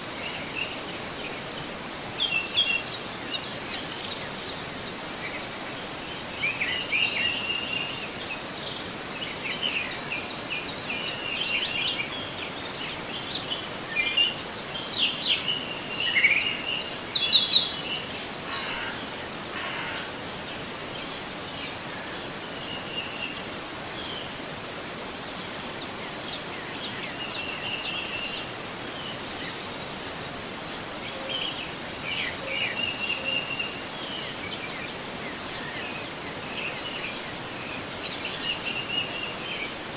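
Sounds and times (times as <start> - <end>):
songbirds chirping and singing: 0.0 - 24.4, 25.9 - 39.8
river water flowing: 0.0 - 39.9.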